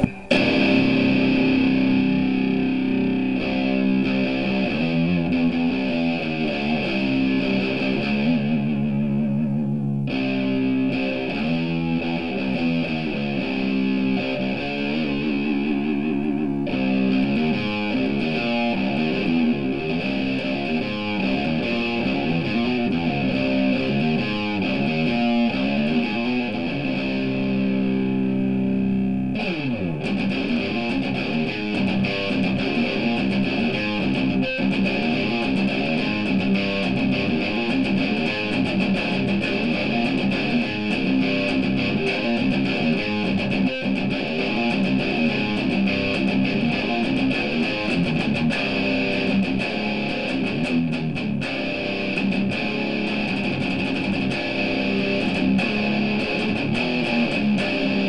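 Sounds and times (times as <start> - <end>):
distorted electric guitar riff: 0.0 - 58.0.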